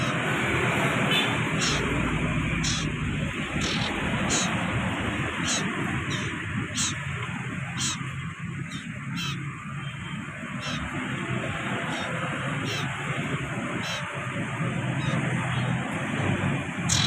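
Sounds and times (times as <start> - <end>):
bird chirps: 0.0 - 0.2, 1.1 - 15.8.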